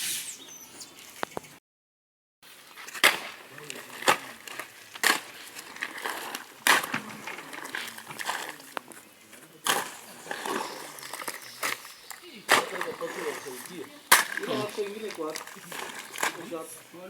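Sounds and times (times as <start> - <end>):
shovel scraping sand and gravel: 0.0 - 0.5, 2.5 - 17.0.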